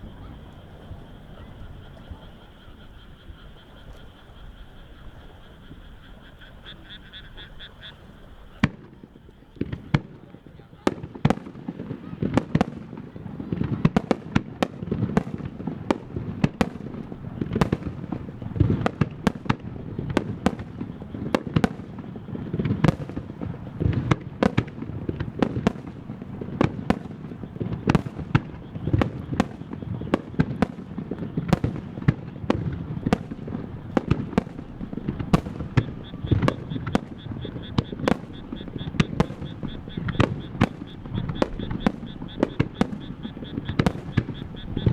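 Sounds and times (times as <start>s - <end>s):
fireworks bangs: 8.0s - 44.9s.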